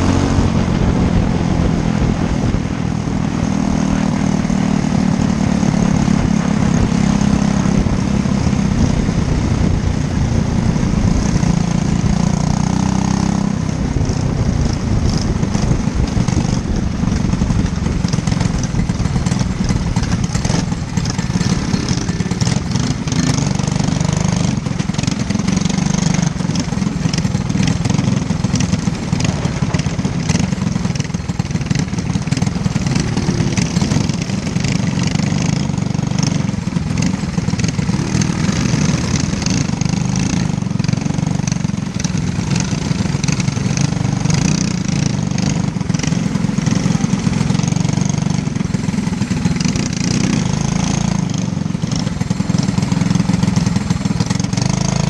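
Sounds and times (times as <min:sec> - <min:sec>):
kart engine running: 0:00.0 - 0:55.0.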